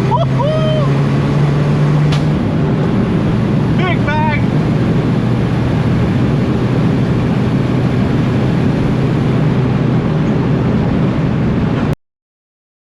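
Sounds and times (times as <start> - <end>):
diesel engine drone: 0.0 - 12.0
road and wind noise: 0.0 - 12.0.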